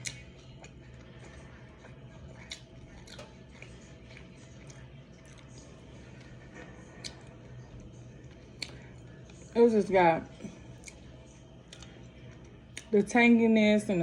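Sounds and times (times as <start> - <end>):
soft chewing: 0.0 - 13.2
low steady hum: 0.0 - 14.0.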